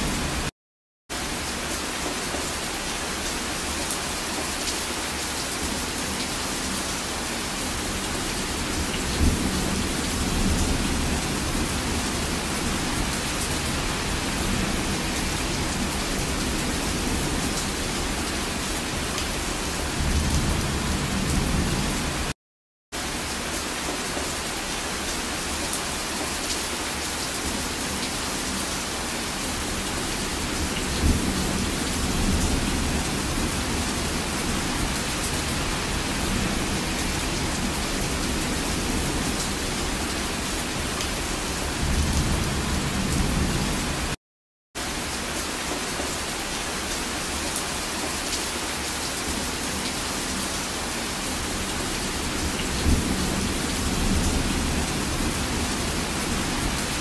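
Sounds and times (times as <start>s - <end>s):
heavy rain: 0.0s - 0.5s, 1.1s - 22.4s, 23.0s - 44.2s, 44.8s - 57.0s.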